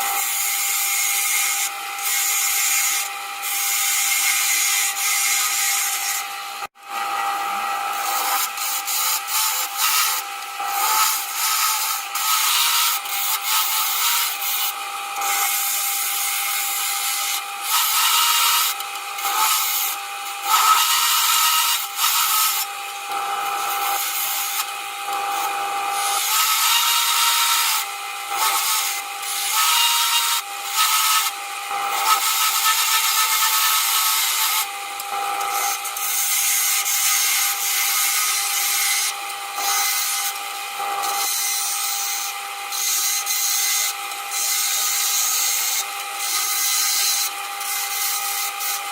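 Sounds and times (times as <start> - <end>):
turning tool cutting wood: 0.0 - 48.9
wood lathe hum: 0.0 - 48.9.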